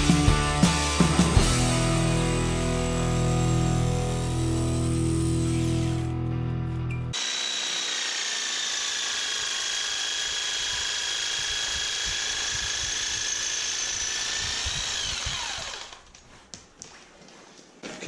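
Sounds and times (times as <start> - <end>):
angle grinder grinding metal: 0.0 - 16.2
grinder spinning down: 0.8 - 6.3, 7.1 - 16.2.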